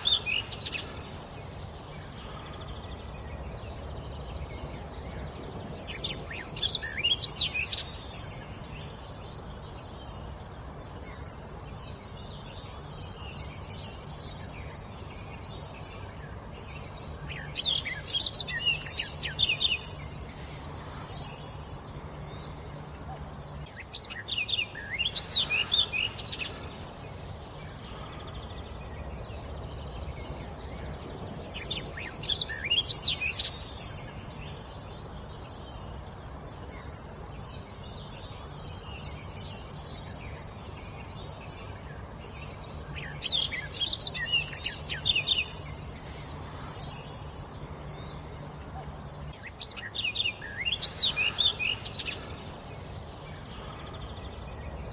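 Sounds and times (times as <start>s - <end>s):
faint low hum: 0.0s - 54.9s
songbird singing: 0.0s - 54.9s.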